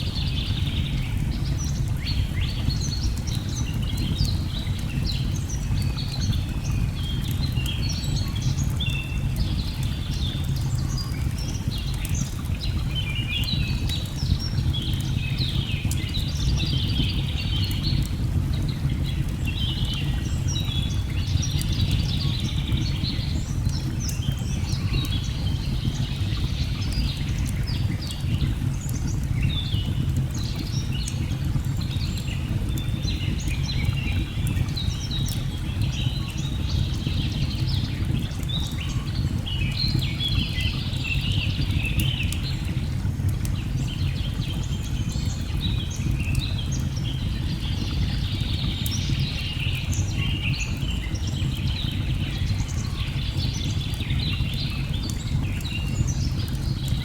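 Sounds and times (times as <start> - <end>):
log fire crackling: 0.0 - 57.0.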